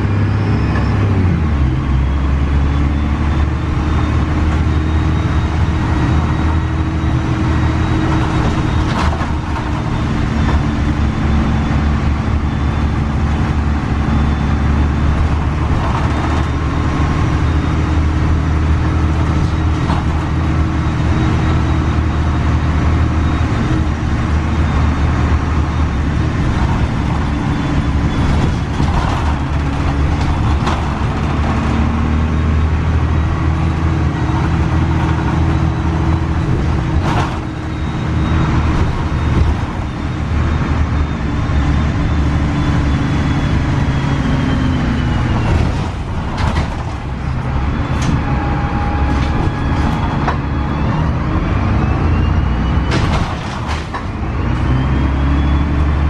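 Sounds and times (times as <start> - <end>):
bus diesel engine running: 0.0 - 56.0.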